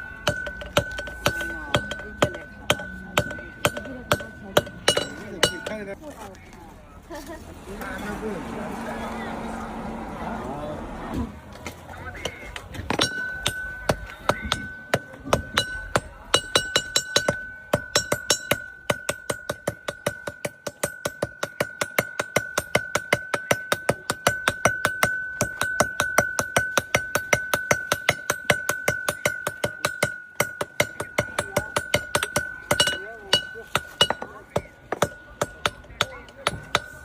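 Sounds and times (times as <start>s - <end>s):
anvil ringing: 0.0s - 6.0s, 12.2s - 37.0s
hammer striking chisel on anvil: 0.0s - 6.0s, 12.0s - 37.0s.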